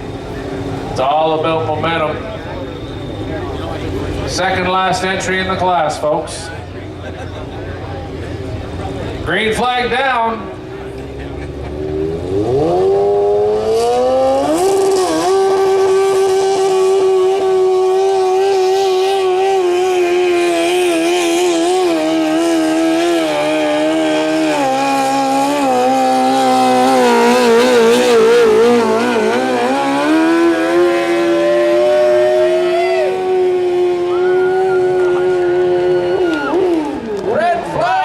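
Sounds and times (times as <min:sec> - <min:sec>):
tractor engine at high revs: 0:00.0 - 0:37.6.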